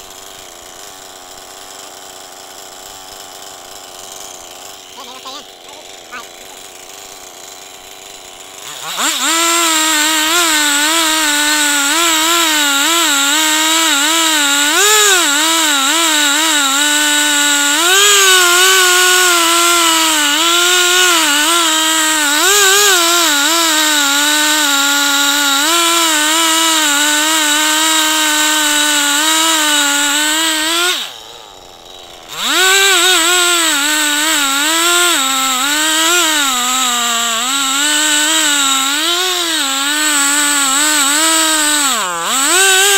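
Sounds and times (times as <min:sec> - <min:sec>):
chainsaw cutting through log: 0:00.0 - 0:42.9.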